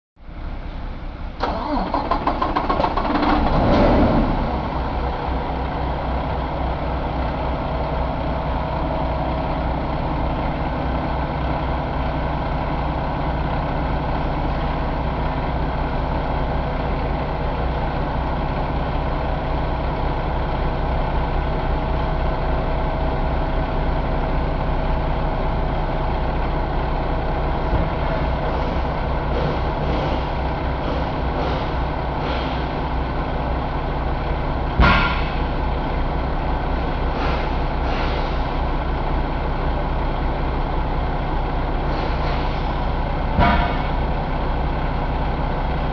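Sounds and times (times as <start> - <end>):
diesel engine starting and idling: 0.2 - 45.9.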